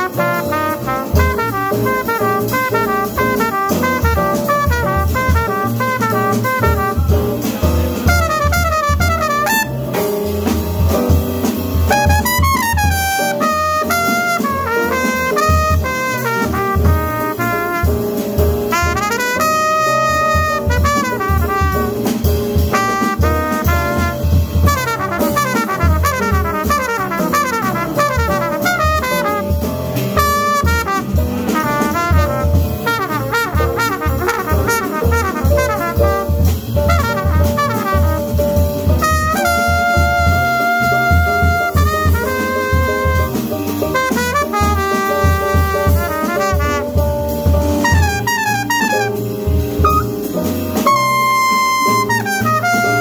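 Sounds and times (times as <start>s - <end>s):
drum kit: 0.0s - 53.0s
piano: 0.0s - 53.0s
trumpet playing fast lines: 0.0s - 53.0s
upright bass: 0.0s - 53.0s.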